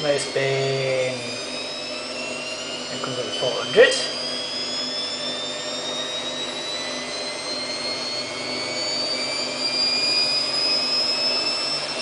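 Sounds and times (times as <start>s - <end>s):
motor whine rising in pitch: 0.0s - 12.0s.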